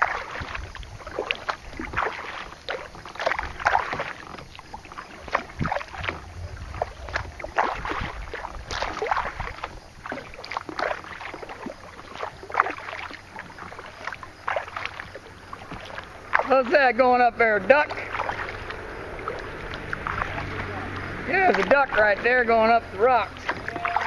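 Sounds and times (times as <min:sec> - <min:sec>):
kayak paddle splashing water: 0:00.0 - 0:24.0
water dripping: 0:00.0 - 0:24.0.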